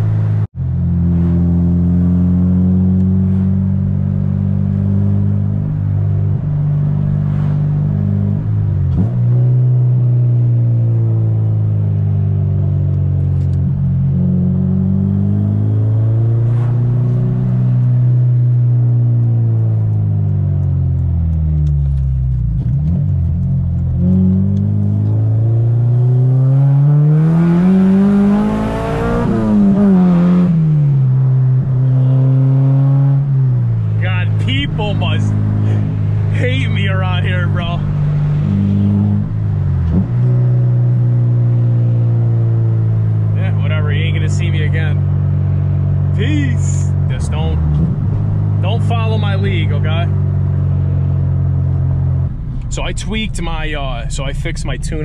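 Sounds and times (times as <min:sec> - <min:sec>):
car engine revving in cabin: 0:00.0 - 0:55.0.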